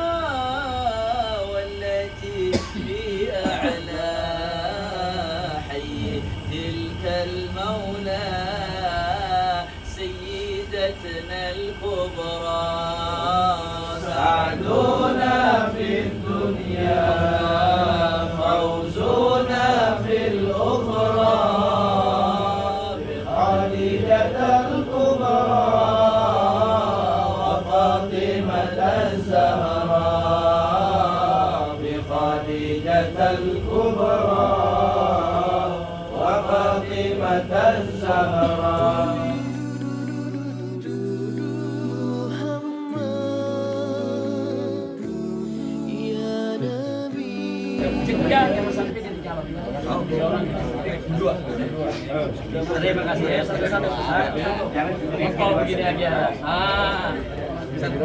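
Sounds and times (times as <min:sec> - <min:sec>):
men chanting: 0:00.0 - 0:58.0.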